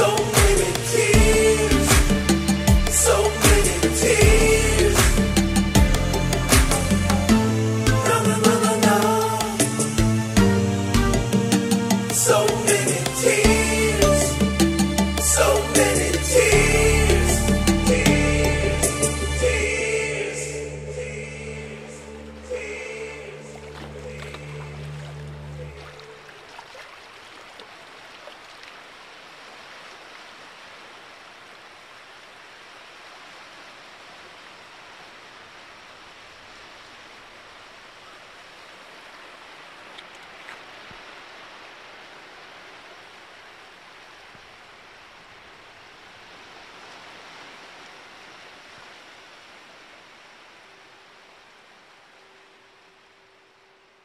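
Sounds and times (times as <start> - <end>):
rough sea: 0.0 - 54.0
steady rain: 0.0 - 54.0.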